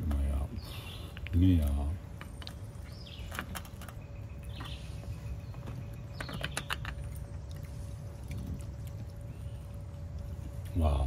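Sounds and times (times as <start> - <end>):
birds chirping: 0.0 - 11.0
low background rumble: 0.0 - 11.0.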